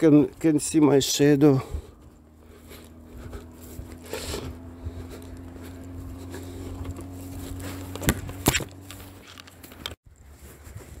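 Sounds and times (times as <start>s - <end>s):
footsteps on sand: 0.0s - 11.0s
steady low hum: 1.0s - 9.9s.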